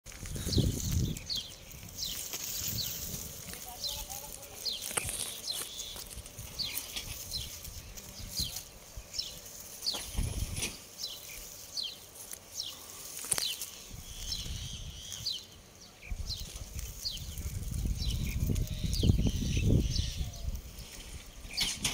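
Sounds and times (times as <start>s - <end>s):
leaves rustling: 0.1s - 21.9s
small bird chirping: 0.3s - 21.9s.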